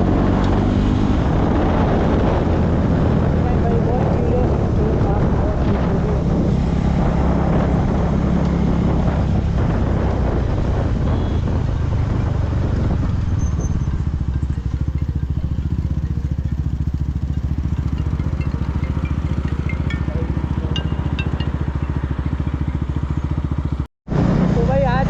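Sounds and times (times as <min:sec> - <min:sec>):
wind rush: 0:00.0 - 0:24.6
motorcycle engine running: 0:00.0 - 0:25.0.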